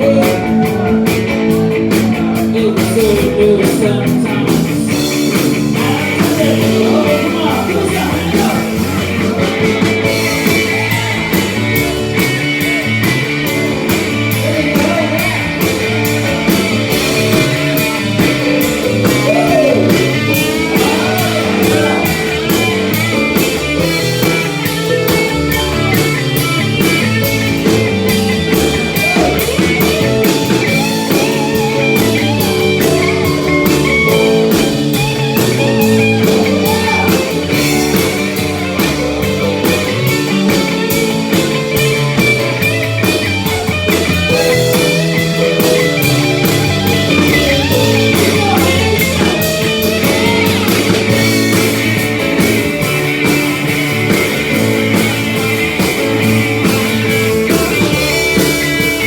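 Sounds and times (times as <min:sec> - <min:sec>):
electric guitar: 0:00.0 - 0:59.0
drum beat: 0:04.7 - 0:59.0.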